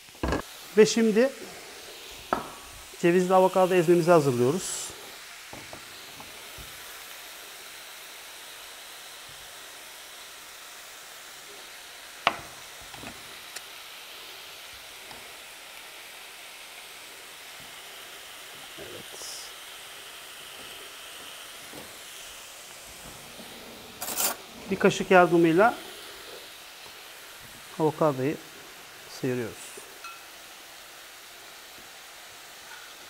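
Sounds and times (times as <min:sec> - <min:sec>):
meat sizzling in a pan: 0:00.0 - 0:33.0.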